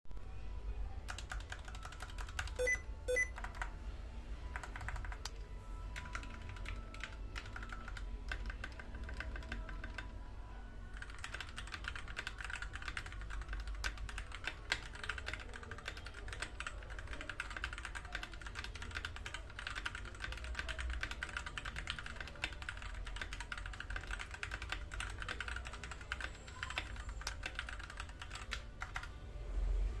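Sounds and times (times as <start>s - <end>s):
mechanical keyboard typing: 1.1s - 3.7s, 4.5s - 5.4s, 6.0s - 10.2s, 10.9s - 29.2s.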